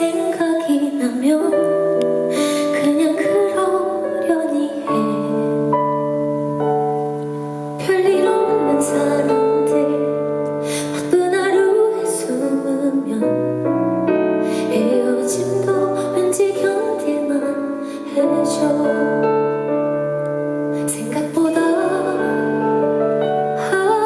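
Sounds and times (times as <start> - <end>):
woman singing softly: 0.0 - 5.7, 7.6 - 13.7, 14.4 - 19.8, 20.7 - 24.0
piano accompaniment: 0.0 - 24.0.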